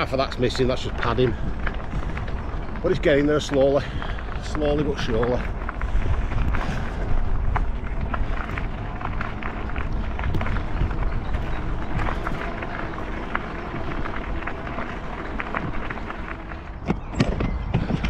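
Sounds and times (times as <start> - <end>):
bike clicks and rattles: 0.0 - 18.0
bike rolling noise: 0.0 - 18.0
wind rumble: 0.0 - 18.0.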